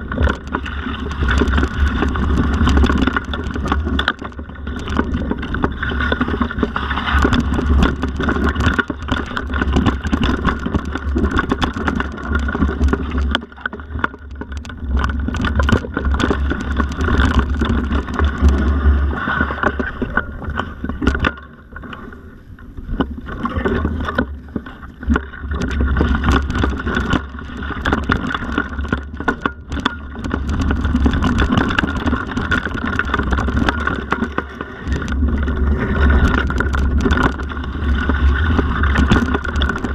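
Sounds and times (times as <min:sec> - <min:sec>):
bike rattling on rough ground: 0:00.0 - 0:39.9.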